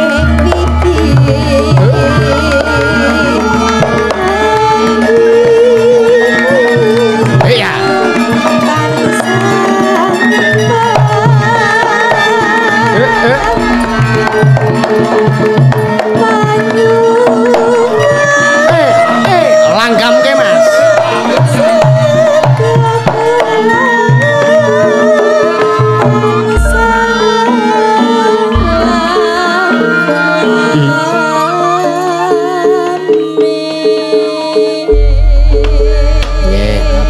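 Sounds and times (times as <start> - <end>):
ringing metallophone tones: 0.0 - 24.2, 26.0 - 32.6
hand drum strokes: 0.0 - 31.1, 34.9 - 37.0
woman singing ornamented melody: 0.0 - 37.0.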